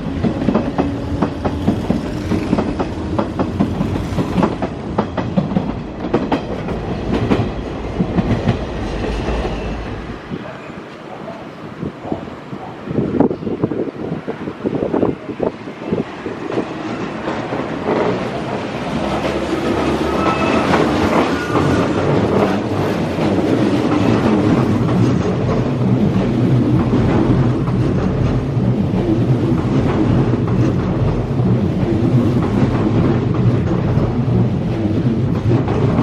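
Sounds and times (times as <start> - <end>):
train wheels clattering: 0.0 - 10.3, 16.4 - 36.0.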